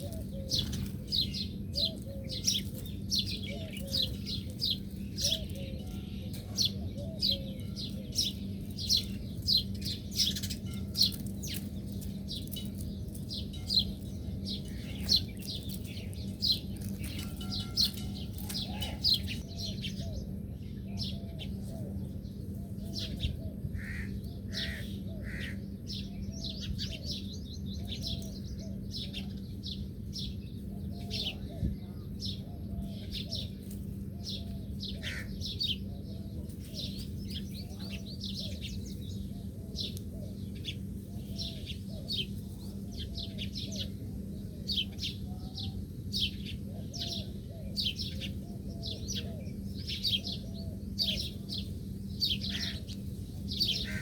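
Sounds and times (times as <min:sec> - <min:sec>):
small birds chirping: 0:00.0 - 0:54.0
steady low hum: 0:00.0 - 0:54.0.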